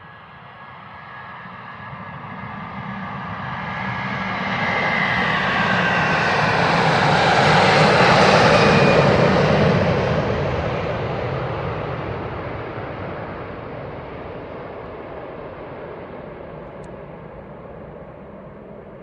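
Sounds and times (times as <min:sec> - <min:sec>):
jet engines passing on runway: 0:00.0 - 0:19.0.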